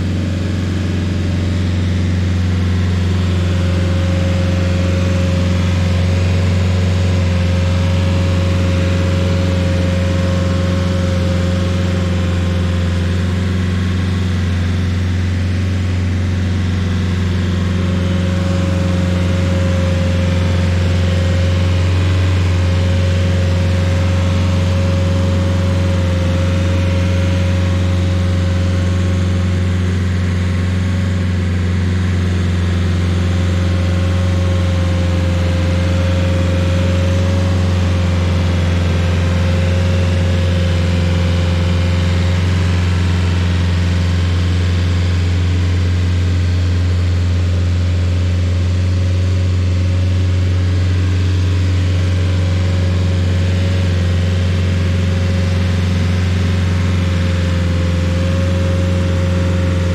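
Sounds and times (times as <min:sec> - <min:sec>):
stump grinder engine drone: 0:00.0 - 0:59.9.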